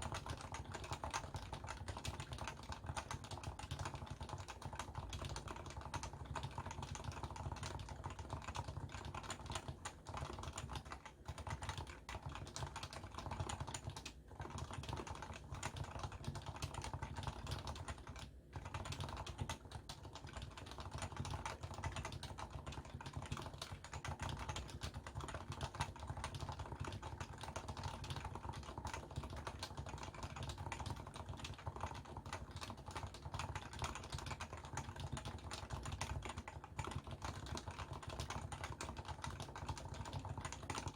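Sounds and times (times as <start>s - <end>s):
keyboard typing: 0.0s - 40.9s.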